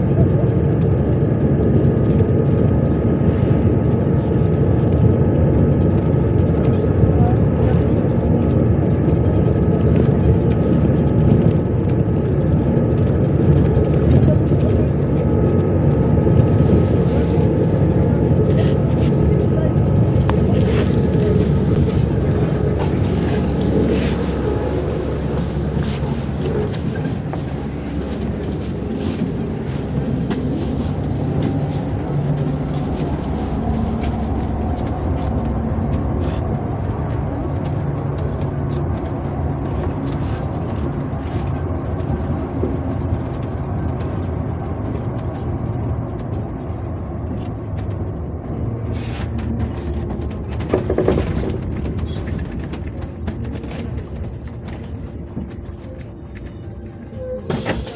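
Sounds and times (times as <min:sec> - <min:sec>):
bus engine drone: 0:00.0 - 0:57.9
road noise: 0:00.0 - 0:57.9.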